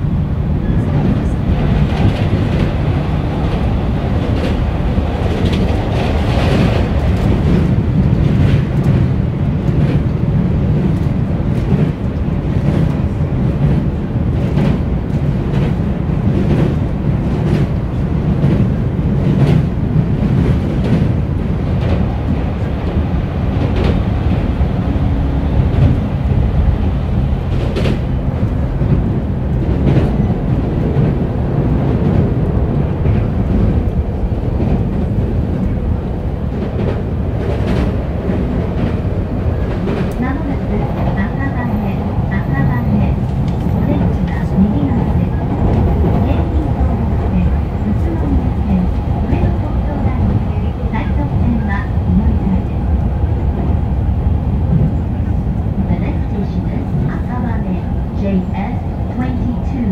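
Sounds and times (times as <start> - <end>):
train wheels rumbling on rail: 0.0 - 59.9
clacks over rail joints: 1.0 - 24.6, 27.3 - 52.5.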